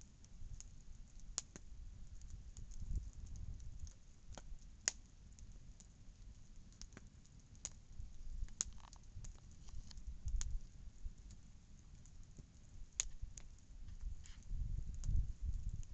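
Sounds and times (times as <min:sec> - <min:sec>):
campfire crackling and popping: 0:00.0 - 0:15.9.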